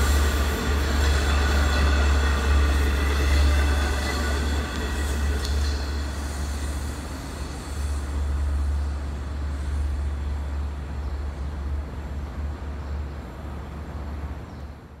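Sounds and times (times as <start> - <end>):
train wheels on rails: 0.0 - 14.5
train rumbling: 0.0 - 15.0.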